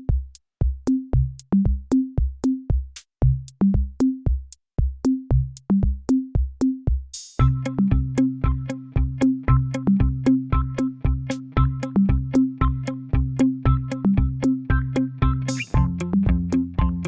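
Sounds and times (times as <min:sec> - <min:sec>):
electronic music with drum machine: 0:00.0 - 0:17.0.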